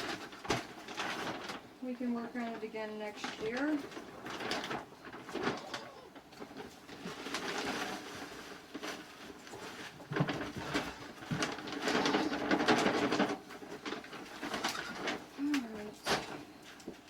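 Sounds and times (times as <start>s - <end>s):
equipment clattering and rustling: 0.0s - 17.0s.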